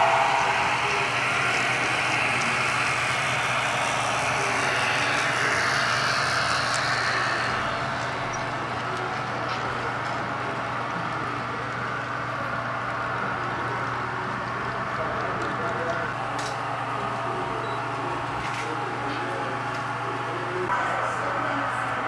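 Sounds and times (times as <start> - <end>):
model train rolling on track: 0.0 - 20.6.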